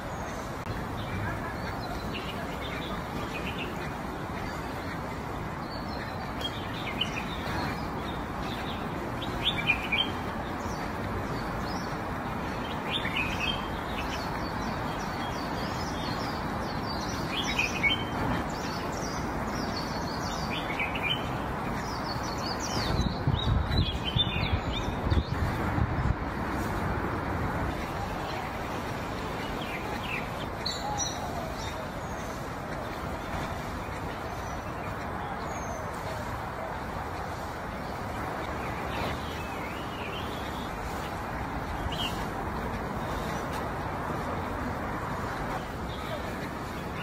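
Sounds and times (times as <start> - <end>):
small birds chirping: 0.0 - 47.0
steady background noise: 0.0 - 47.0.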